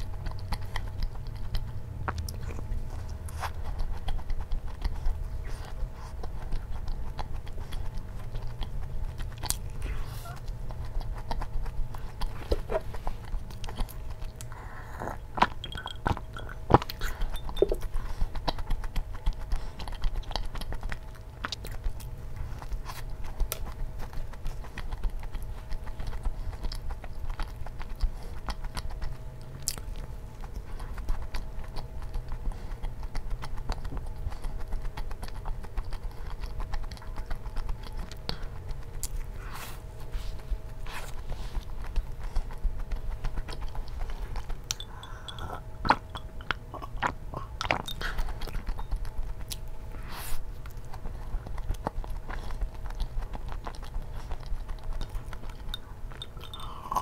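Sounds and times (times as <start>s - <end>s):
faint steady hum: 0.0s - 57.0s
moist chewing with crunches: 0.0s - 57.0s.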